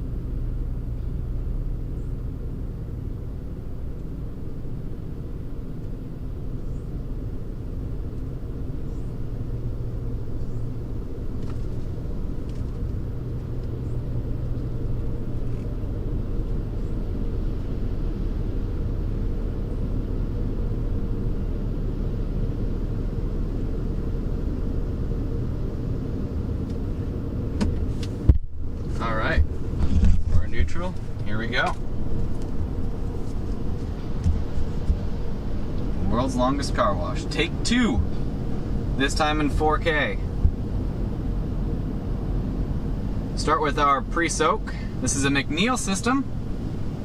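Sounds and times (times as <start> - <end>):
car engine rumble inside cabin: 0.0 - 47.0.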